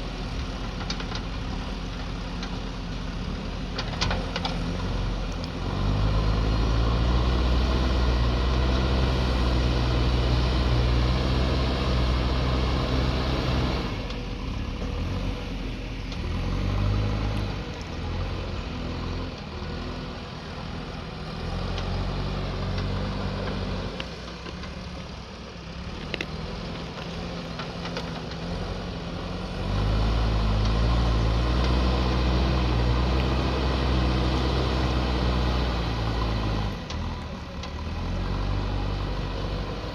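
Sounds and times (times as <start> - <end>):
diesel engine working: 0.0 - 39.9.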